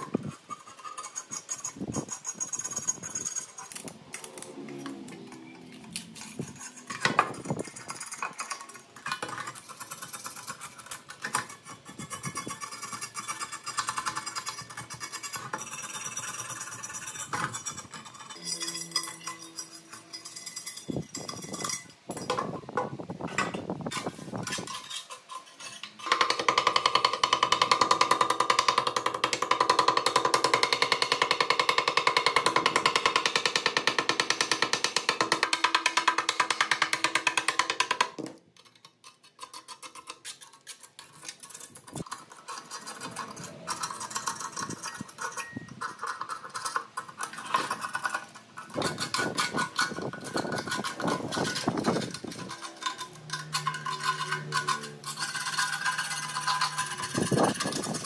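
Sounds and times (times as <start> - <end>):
scraper blade scratching metal: 0.0 - 5.1, 5.8 - 21.9, 23.9 - 37.7, 38.7 - 58.0.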